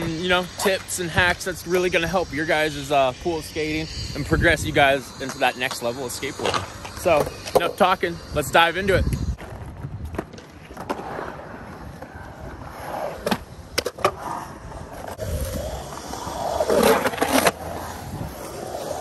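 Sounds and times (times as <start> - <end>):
skateboard wheels rolling on concrete: 0.0 - 19.0.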